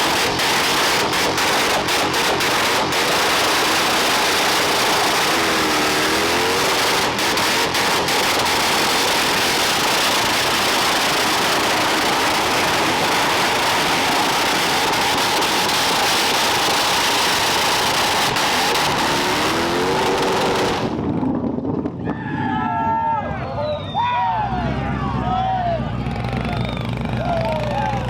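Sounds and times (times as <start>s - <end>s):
vehicle engine running: 0.0s - 21.8s, 24.4s - 28.0s.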